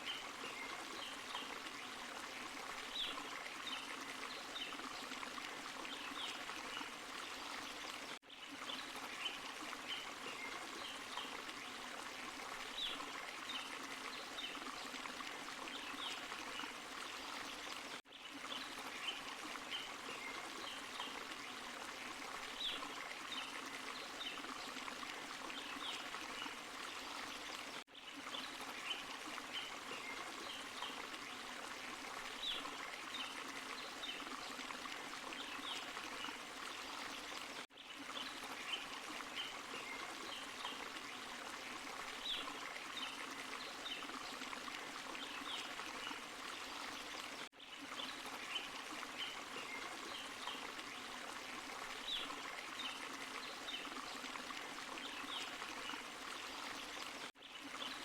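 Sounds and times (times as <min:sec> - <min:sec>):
stream rushing and trickling: 0:00.0 - 0:58.0.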